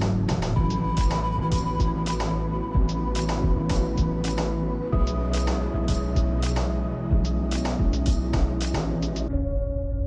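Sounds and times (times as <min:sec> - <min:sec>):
music with steady beat: 0:00.0 - 0:09.3.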